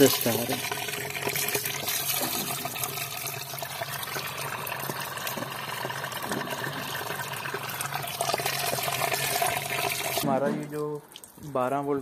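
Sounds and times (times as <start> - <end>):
pump humming: 0.0 - 10.2
water gushing and splashing: 0.0 - 10.2.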